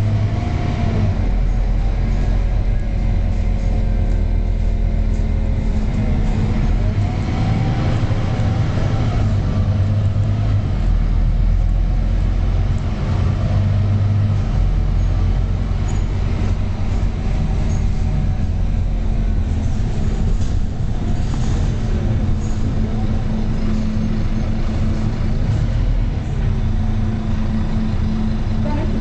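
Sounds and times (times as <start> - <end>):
bus diesel engine running: 0.0 - 29.0.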